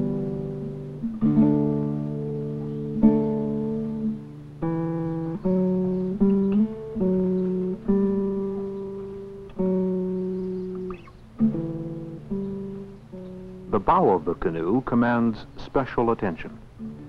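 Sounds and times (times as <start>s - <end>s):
plucked acoustic guitar melody: 0.0s - 17.0s.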